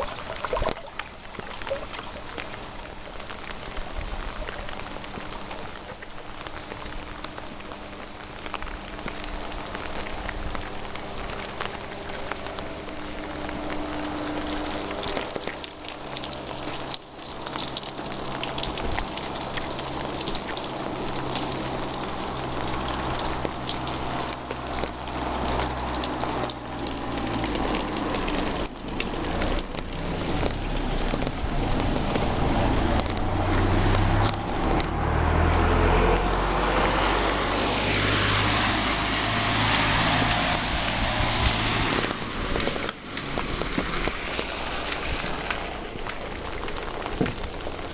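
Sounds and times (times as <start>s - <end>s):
rain pattering on surfaces: 0.0s - 47.9s
vehicle engine hum: 0.0s - 47.9s.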